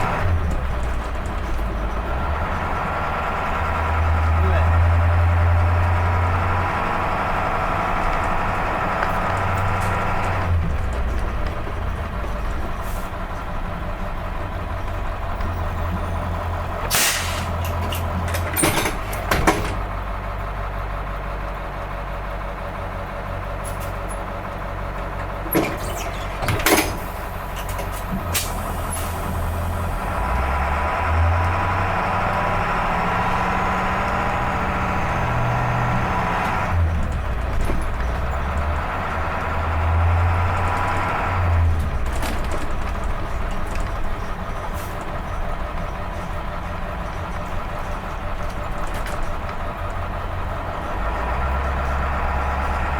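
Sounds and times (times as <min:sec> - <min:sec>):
diesel bus engine idling: 0:00.0 - 0:52.9.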